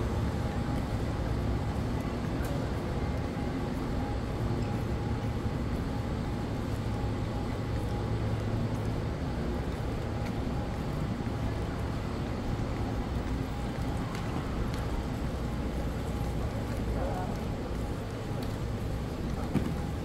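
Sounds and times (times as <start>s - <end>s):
low hum of terminal hall: 0.0s - 20.0s.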